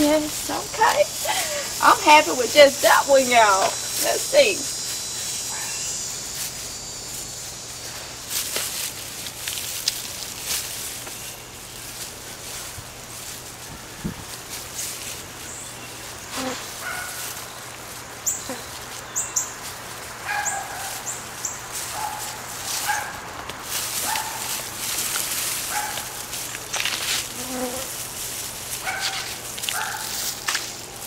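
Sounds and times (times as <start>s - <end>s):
hands rummaging through soil: 0.0s - 31.0s.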